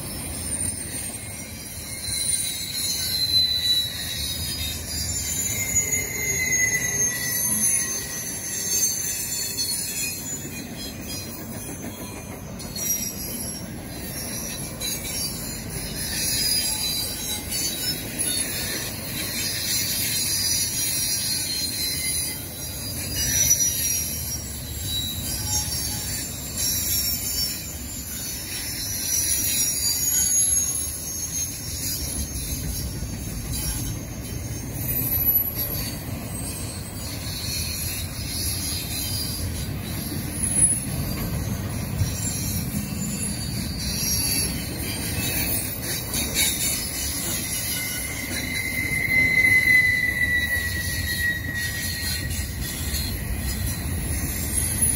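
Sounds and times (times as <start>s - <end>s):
train wheels rumbling on rail: 0.0s - 54.9s
wheel squeal: 0.0s - 54.9s.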